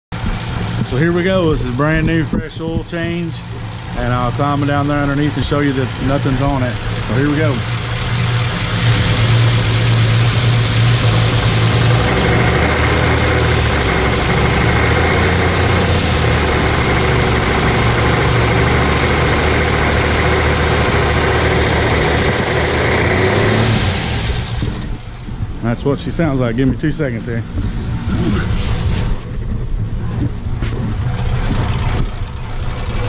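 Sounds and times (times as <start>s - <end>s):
engine idling with knock: 0.1s - 25.6s, 26.6s - 33.0s.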